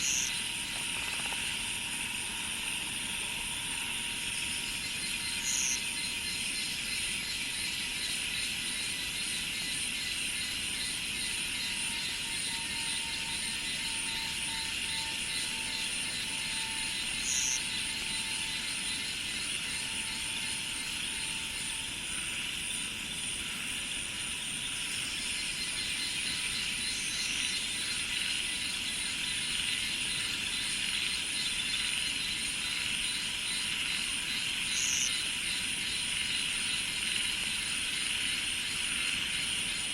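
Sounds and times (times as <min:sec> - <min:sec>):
insects buzzing and trilling: 0:00.0 - 0:39.9.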